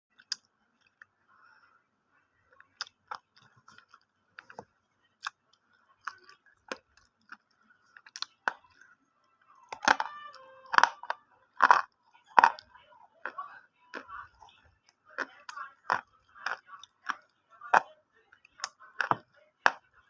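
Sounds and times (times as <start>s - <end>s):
person chewing crunchy food: 0.1s - 1.1s, 2.6s - 8.9s, 9.6s - 20.0s.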